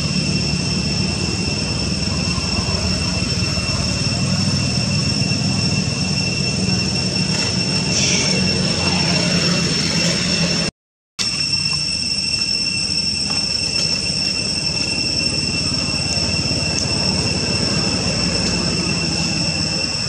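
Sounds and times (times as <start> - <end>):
high-pitched drone: 0.0 - 20.0.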